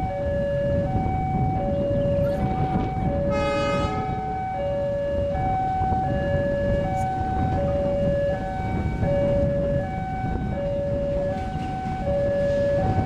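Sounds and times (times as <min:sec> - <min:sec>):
level crossing two-tone alarm: 0:00.0 - 0:13.0.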